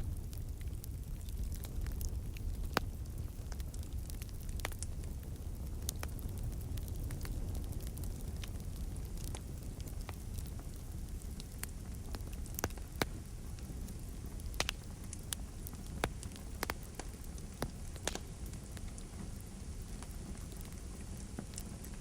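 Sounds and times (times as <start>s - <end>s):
campfire crackling and popping: 0.0s - 22.0s
low fire rumble: 0.0s - 22.0s.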